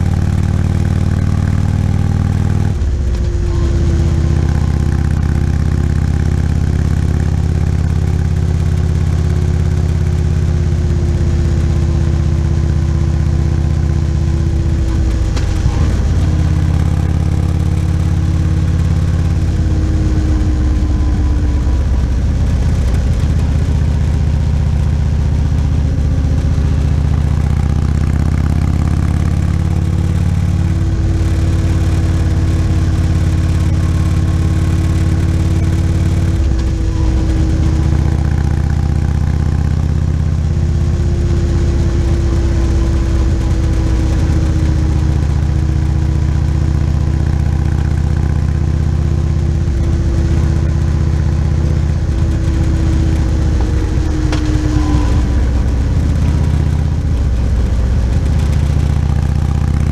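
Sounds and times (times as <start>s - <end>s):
motorcycle engine running: 0.0s - 59.9s
rush of ride noise: 0.0s - 59.9s.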